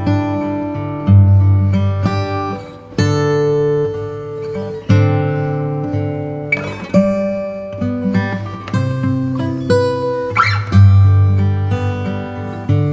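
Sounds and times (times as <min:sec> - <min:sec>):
acoustic guitar chords: 0:00.0 - 0:12.9.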